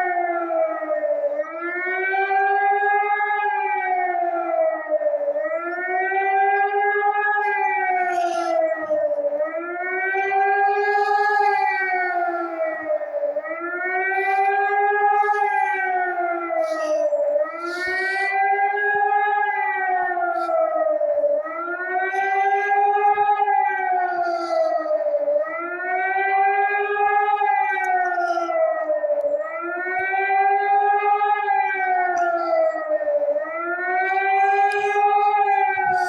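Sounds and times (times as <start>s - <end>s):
civil defense siren wailing: 0.0s - 36.0s.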